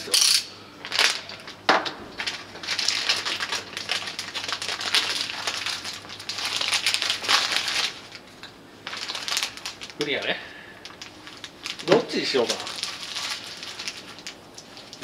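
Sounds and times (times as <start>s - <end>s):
plastic bag crinkling: 0.8s - 15.0s.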